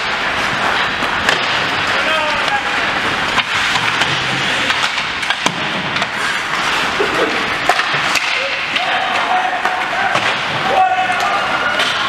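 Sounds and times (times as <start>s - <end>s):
crowd hubbub: 0.0s - 12.0s.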